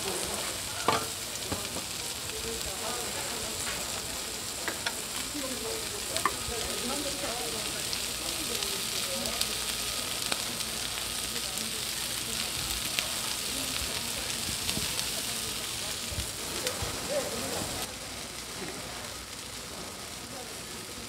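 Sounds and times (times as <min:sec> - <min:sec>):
shellfish sizzling on a griddle: 0:00.0 - 0:21.0.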